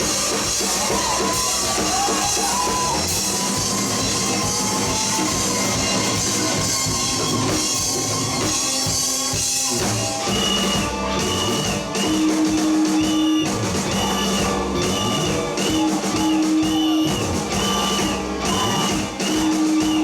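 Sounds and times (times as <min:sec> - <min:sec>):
rock band playing instrumental: 0:00.0 - 0:20.0.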